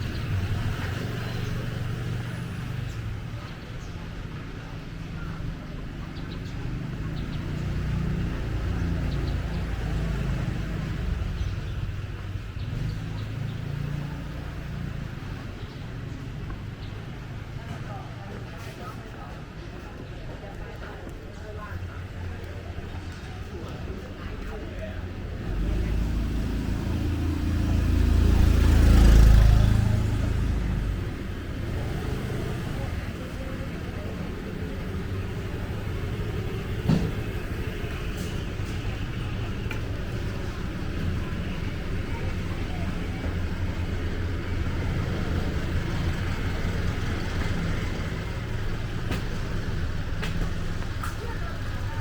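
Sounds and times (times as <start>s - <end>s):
motor vehicle passing: 0.0s - 19.3s, 21.6s - 52.0s
traffic engine rumble: 0.0s - 52.0s.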